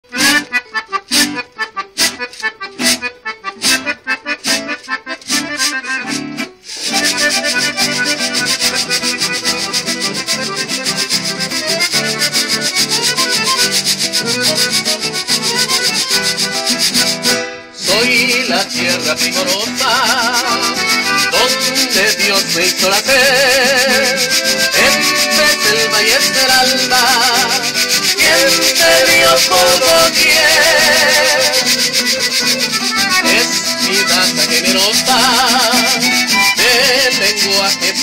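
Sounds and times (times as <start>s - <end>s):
acoustic guitars strumming: 0.0s - 38.0s
scratchy rhythm: 0.0s - 38.0s.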